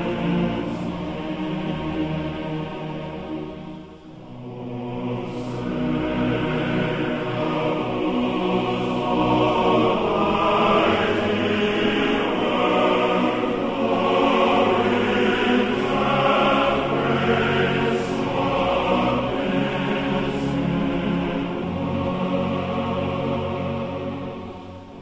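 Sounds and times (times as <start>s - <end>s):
choir singing held notes: 0.0s - 25.0s.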